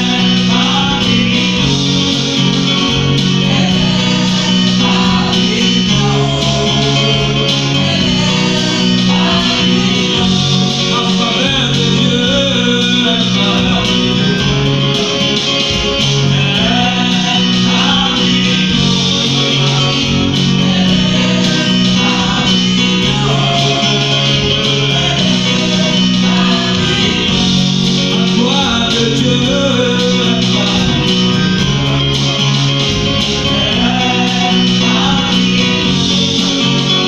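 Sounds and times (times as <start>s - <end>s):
person singing: 0.0s - 31.6s, 33.2s - 37.0s
bass line: 0.0s - 37.0s
guitar: 0.0s - 37.0s
steady beat: 0.0s - 37.0s.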